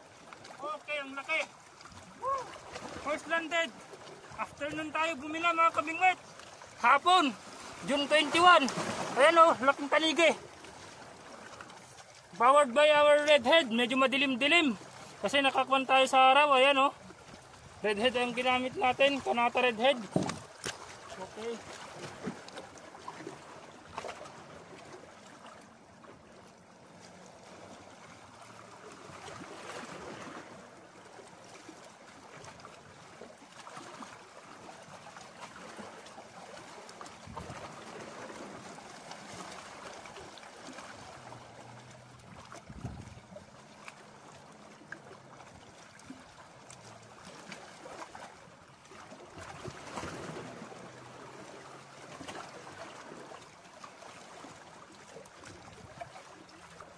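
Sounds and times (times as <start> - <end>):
small water splashes: 0.0 - 56.9
waves lapping against rocks: 0.0 - 56.9.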